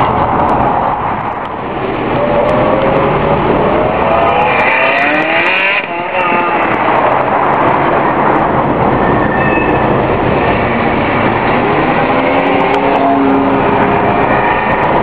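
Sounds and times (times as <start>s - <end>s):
road noise inside car: 0.0s - 15.0s.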